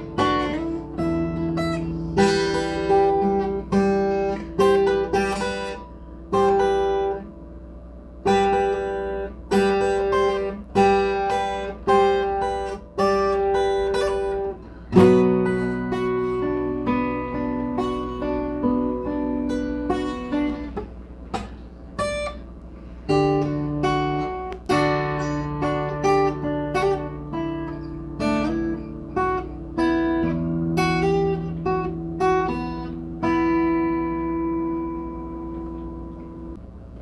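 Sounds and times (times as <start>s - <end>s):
guitar plucked notes and chords: 0.0s - 37.0s
steady low hum: 0.0s - 37.0s.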